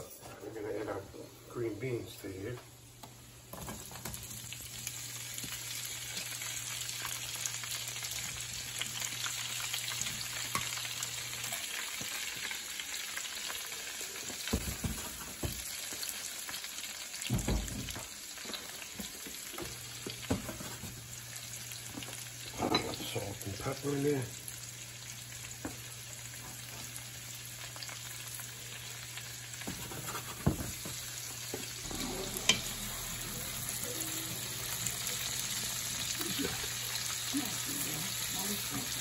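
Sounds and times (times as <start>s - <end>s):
green beans sizzling in oil: 3.5s - 39.0s.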